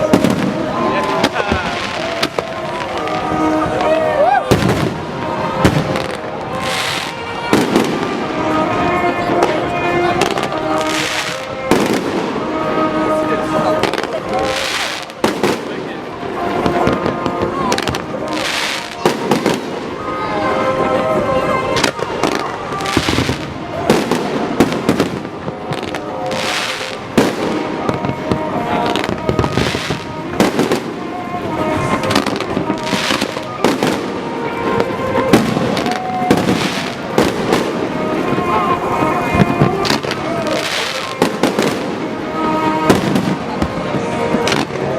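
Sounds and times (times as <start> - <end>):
fireworks bangs and crackling: 0.0 - 44.9
music with held notes: 0.0 - 44.9.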